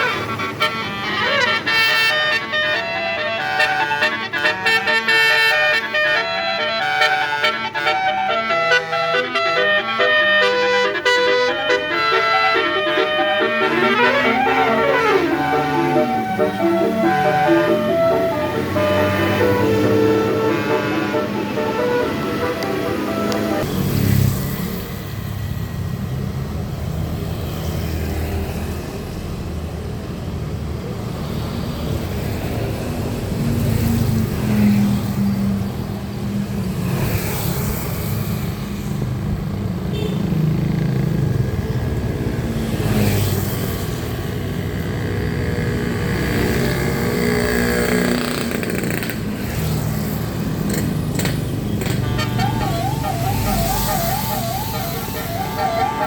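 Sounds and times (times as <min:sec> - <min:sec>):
low rumble of traffic: 0:00.0 - 0:56.0.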